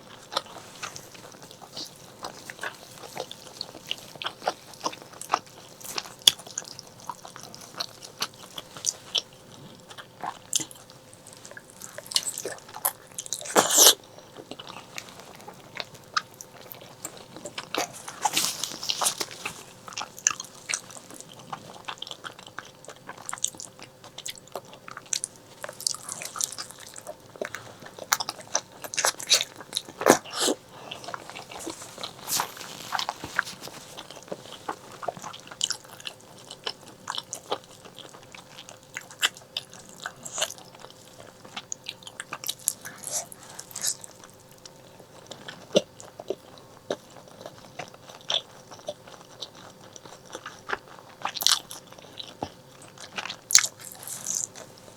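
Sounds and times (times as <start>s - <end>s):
chewing and mouth smacks: 0.0s - 54.9s.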